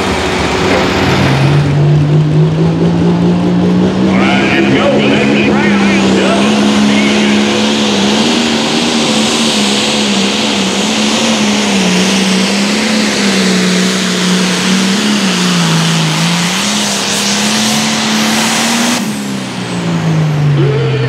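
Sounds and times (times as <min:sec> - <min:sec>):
diesel tractor engine under load: 0:00.0 - 0:21.0.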